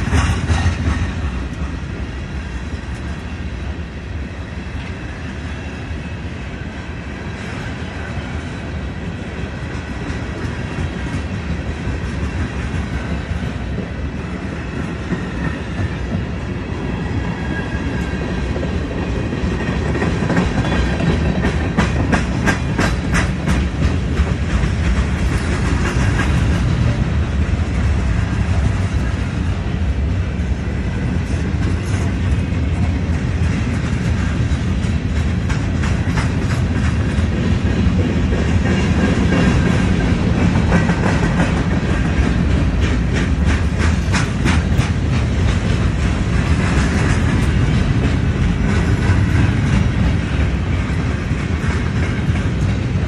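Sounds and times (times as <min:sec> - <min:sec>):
wheels clicking over rail joints: 0:00.0 - 0:03.2, 0:09.5 - 0:53.0
steel wheels rumbling on rail: 0:00.0 - 0:53.0.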